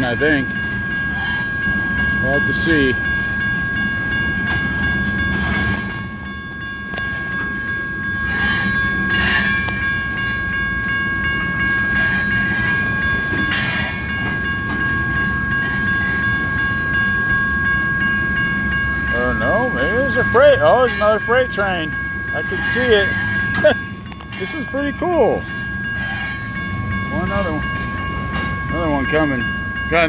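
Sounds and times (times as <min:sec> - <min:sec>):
heavy rumble of train wheels: 0:00.0 - 0:30.0
high ringing tone: 0:00.0 - 0:30.0
train clanks: 0:00.0 - 0:30.0.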